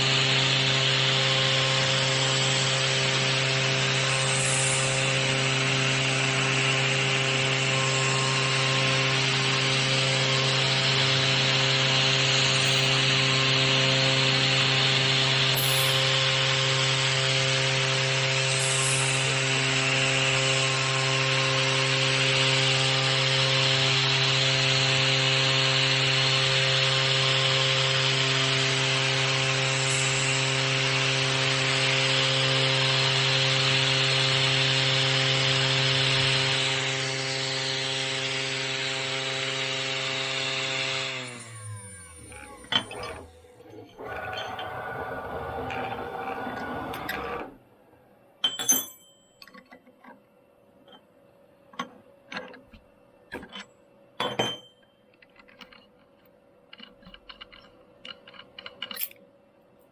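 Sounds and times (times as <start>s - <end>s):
machine hum and whine: 0.0s - 59.2s.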